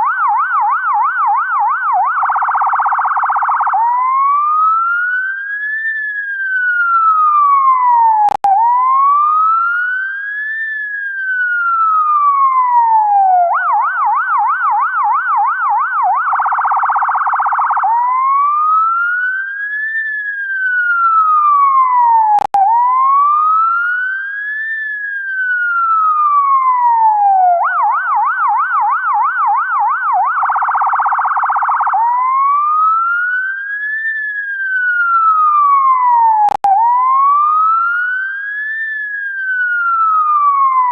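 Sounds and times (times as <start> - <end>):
ambulance siren: 0.0 - 40.9.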